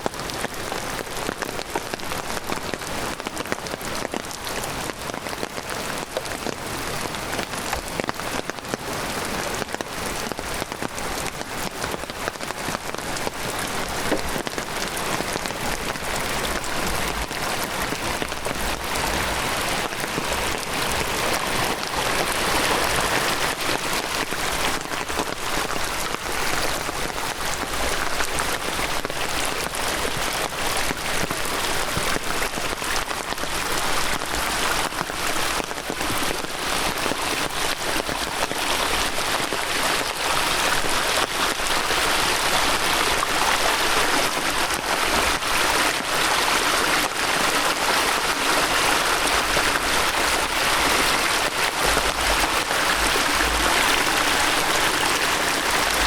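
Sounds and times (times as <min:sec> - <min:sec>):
heavy rain falling: 0:00.0 - 0:56.0
raindrops ticking close by: 0:00.0 - 0:56.0.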